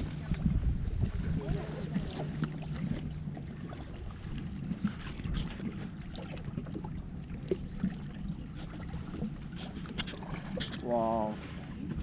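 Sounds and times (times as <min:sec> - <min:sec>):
jet ski engine humming: 0:00.0 - 0:12.0
water splashing and rushing: 0:00.0 - 0:12.0.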